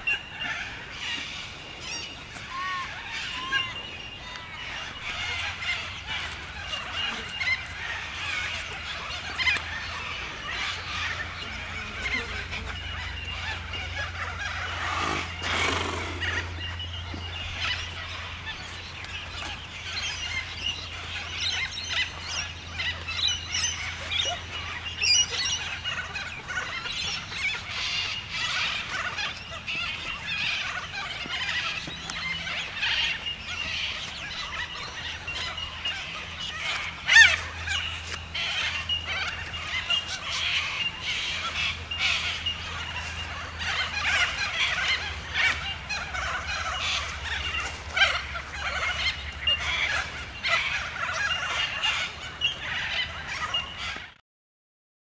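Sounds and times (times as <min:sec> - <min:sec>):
birds chirping: 0:00.0 - 0:54.2.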